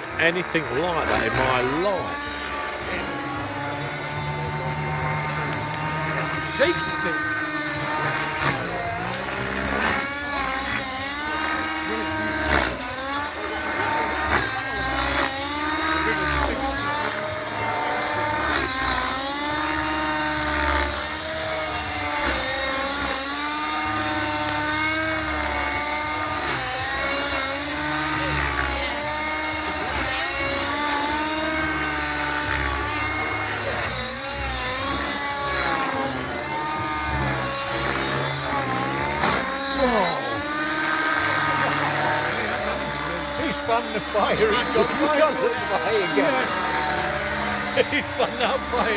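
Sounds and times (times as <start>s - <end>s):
rc helicopter rotor whine: 0.0s - 48.9s.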